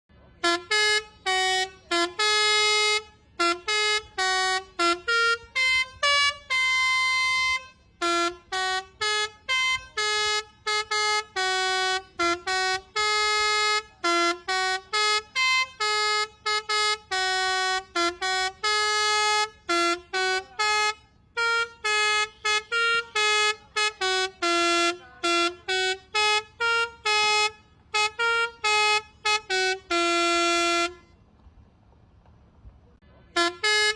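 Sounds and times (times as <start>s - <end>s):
multi-tone air horn melody: 0.1s - 31.2s, 33.0s - 33.9s.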